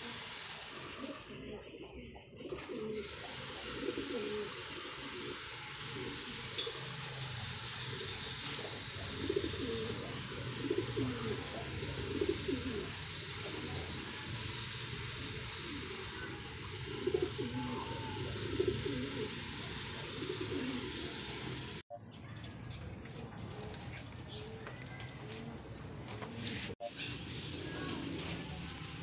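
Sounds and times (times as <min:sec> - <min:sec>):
pigeons cooing: 0:00.0 - 0:21.8, 0:25.6 - 0:29.0.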